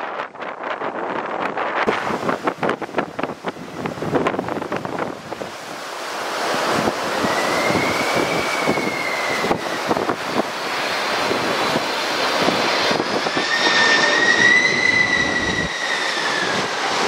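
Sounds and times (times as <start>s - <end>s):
wind buffeting microphone: 0.0s - 17.0s
jet engines roaring on landing: 1.2s - 17.0s.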